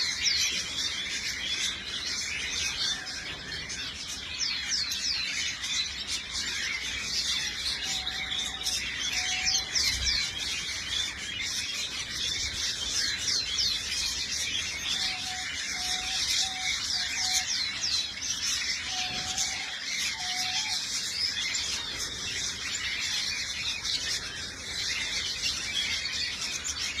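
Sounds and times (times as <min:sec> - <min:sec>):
aviary birds chattering: 0:00.0 - 0:27.0.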